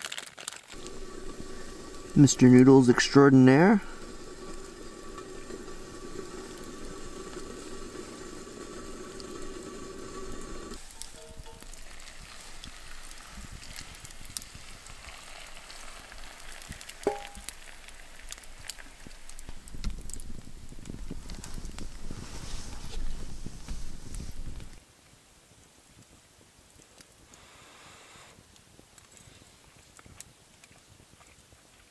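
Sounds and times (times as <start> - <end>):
boiling water pouring hissing: 0.0 - 24.8, 25.8 - 31.9
campfire crackling: 0.0 - 31.9.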